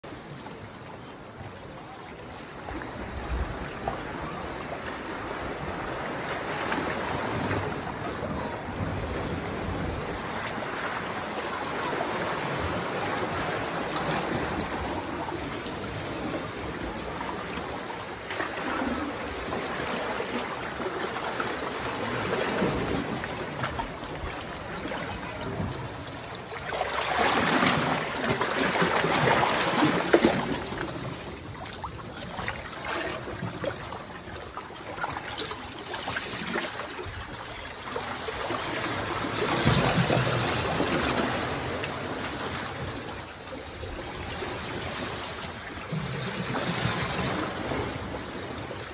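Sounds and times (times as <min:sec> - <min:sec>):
water rushing over rocks: 0:03.4 - 0:43.0.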